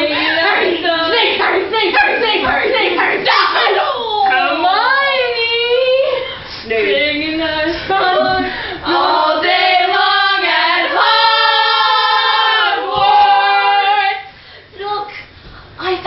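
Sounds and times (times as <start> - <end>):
voices singing a cappella: 0.0 - 14.4.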